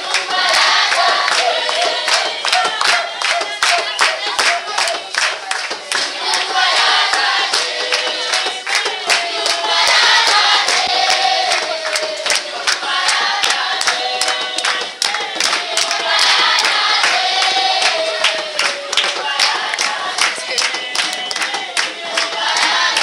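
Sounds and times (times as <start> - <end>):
children singing together: 0.0 - 23.0
hand claps: 0.0 - 23.0.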